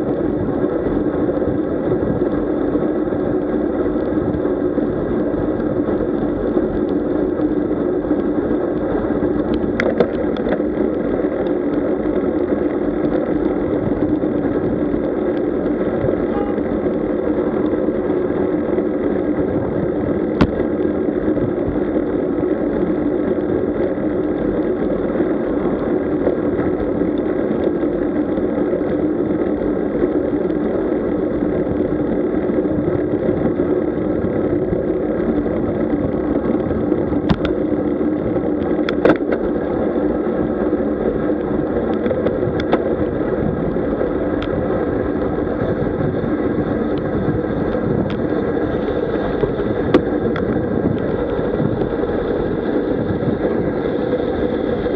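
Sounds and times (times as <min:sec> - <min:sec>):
bike tyre rumble: 0:00.0 - 0:54.9
wind: 0:00.0 - 0:54.9.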